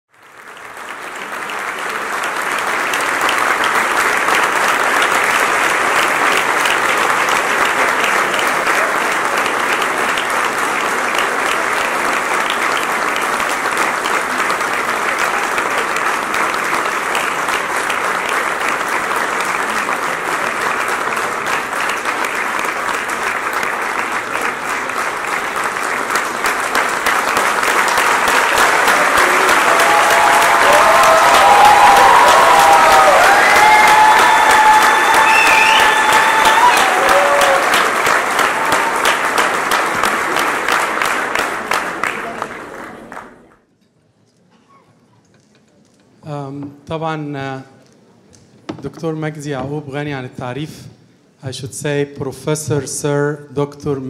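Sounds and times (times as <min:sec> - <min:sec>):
large audience applauding: 0:00.1 - 0:43.6.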